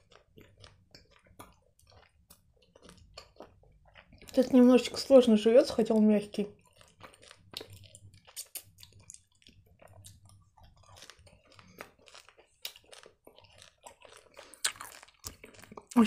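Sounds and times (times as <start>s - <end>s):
chewing gummy candy: 0.0s - 16.0s.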